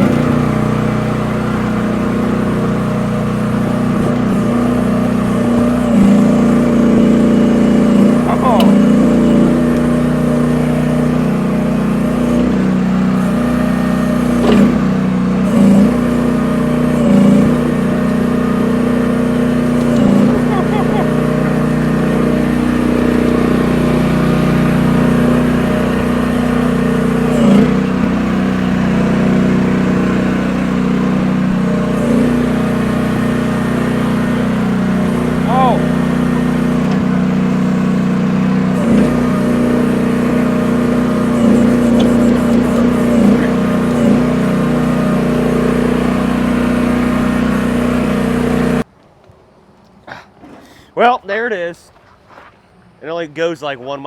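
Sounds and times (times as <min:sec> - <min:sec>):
small excavator engine running: 0:00.0 - 0:51.0.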